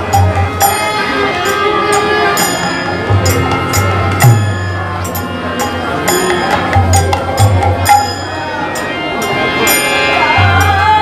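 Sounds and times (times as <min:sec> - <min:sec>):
small hand cymbals ringing: 0:00.0 - 0:11.0
violin melody: 0:00.0 - 0:11.0.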